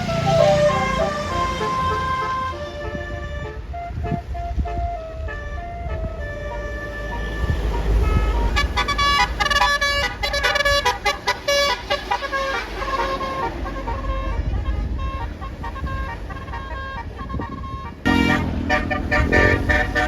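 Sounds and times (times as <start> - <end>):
low bus rumble: 0.0 - 20.0
musical bus horn playing tune: 0.0 - 20.0.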